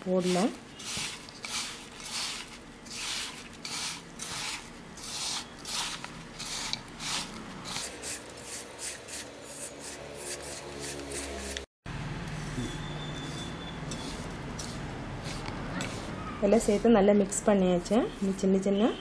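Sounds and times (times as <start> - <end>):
hand rubbing dry mix in steel bowl: 0.1 - 11.6, 12.2 - 18.7.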